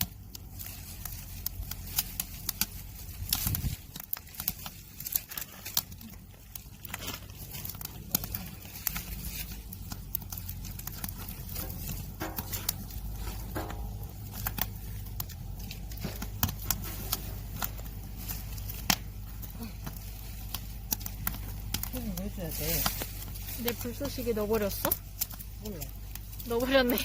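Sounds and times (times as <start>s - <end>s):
low steady rumble: 0.0s - 27.0s
wood fire crackling and popping: 0.0s - 27.0s.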